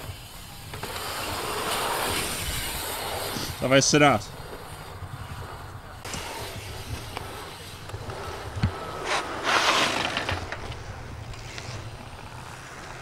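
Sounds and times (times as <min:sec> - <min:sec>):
bike tyres rolling on dirt: 0:00.0 - 0:13.0
rush of tyre noise: 0:00.0 - 0:13.0.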